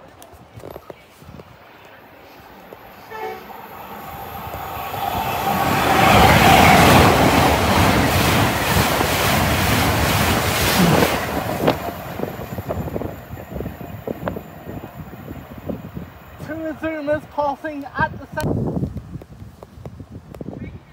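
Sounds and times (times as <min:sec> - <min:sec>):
train passing at speed: 0:01.5 - 0:18.4.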